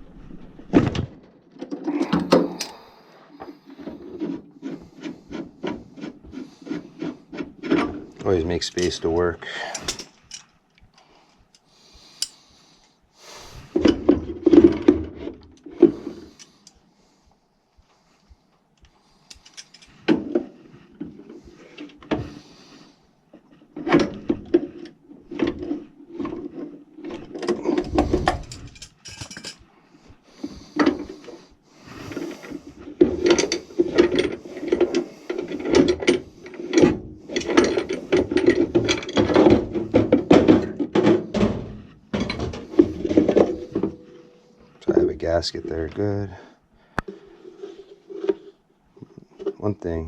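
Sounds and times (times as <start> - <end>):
sheet metal parts rattling and scraping: 0.0 - 10.6, 13.4 - 16.7, 19.0 - 22.8, 23.4 - 46.5.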